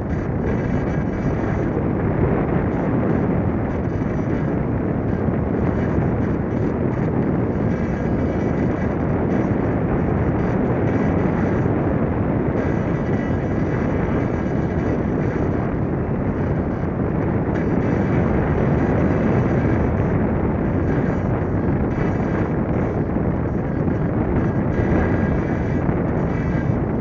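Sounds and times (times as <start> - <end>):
air rushing over microphone: 0.0 - 27.0.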